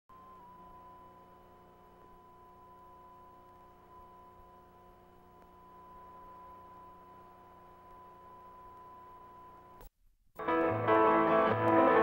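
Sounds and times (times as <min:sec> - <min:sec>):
quieter steady electronic tones: 0:00.1 - 0:09.9
thin electronic tone: 0:00.1 - 0:09.9.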